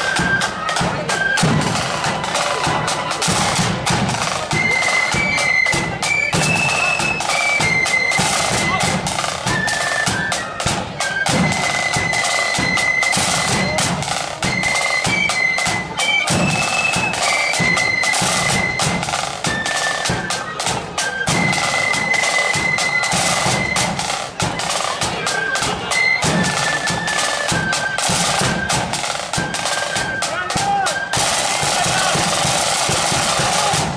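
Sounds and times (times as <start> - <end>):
high flute melody: 0.0 - 33.9
rapid snare drumming: 0.0 - 33.9.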